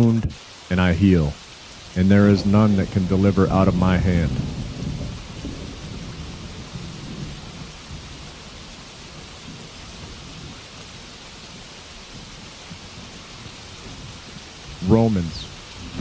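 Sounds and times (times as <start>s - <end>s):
steady rainfall: 0.0s - 16.0s
thunder rumble: 0.9s - 16.0s.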